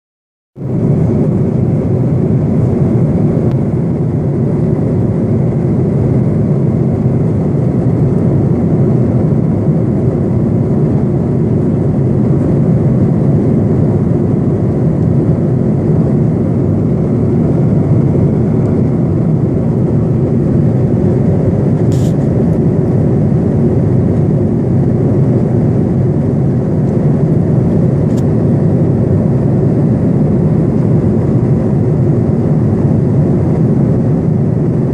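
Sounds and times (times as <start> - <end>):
airliner engine roar in cabin: 0.6 - 34.9.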